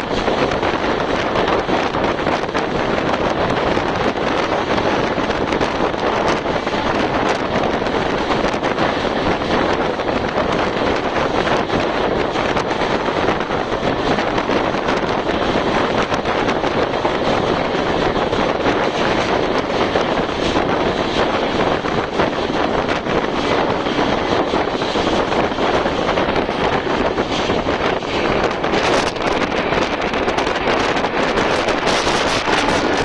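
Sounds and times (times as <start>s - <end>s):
train rushing at speed: 0.0s - 33.0s
wind blowing across microphone: 0.0s - 33.0s.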